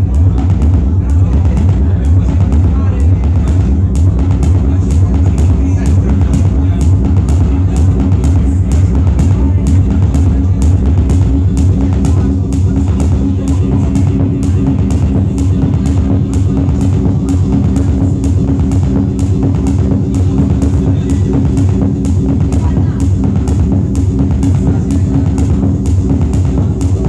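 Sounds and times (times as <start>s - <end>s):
loud electronic music: 0.0s - 27.0s.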